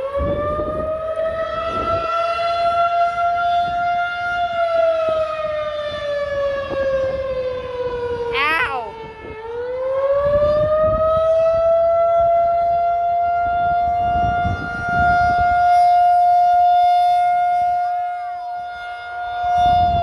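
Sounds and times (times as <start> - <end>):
loud outdoor warning siren: 0.0 - 20.0.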